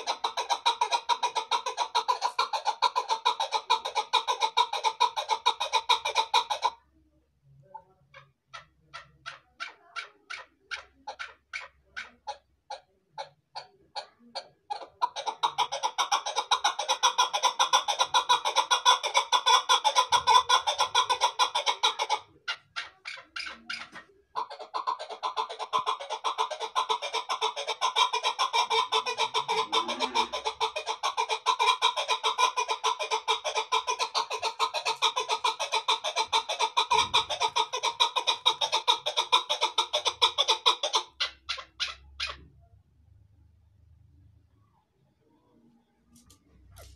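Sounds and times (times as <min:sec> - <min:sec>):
partridge clucking calls: 0:00.0 - 0:06.8, 0:07.6 - 0:42.6.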